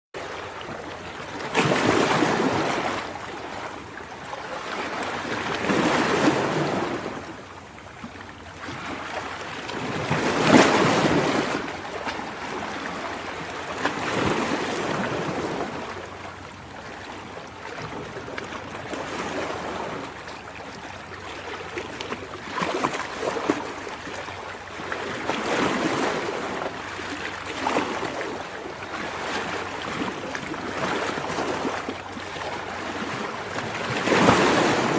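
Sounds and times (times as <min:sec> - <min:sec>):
ocean waves breaking: 0:00.2 - 0:34.9.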